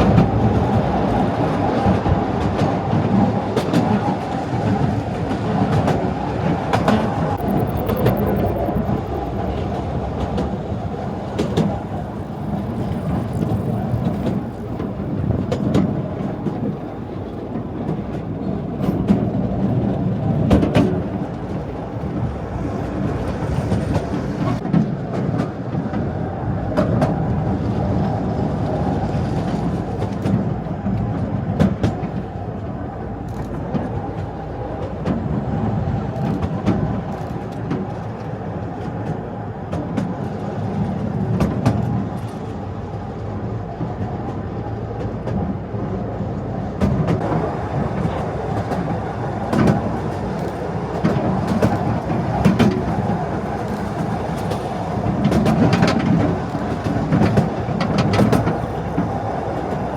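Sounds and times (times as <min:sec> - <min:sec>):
train rumbling along track: 0:00.0 - 0:59.9
wheels clicking on rails: 0:00.0 - 0:59.9.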